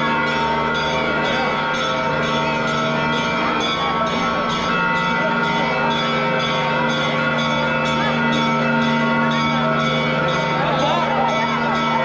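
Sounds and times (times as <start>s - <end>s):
church bells pealing: 0.0s - 12.0s
crowd voices: 0.0s - 12.0s.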